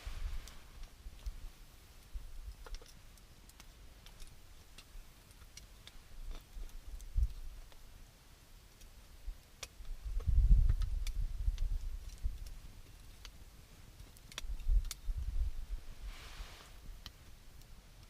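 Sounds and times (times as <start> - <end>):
campfire crackling: 0.0 - 18.0
low fire rumble: 0.0 - 18.0.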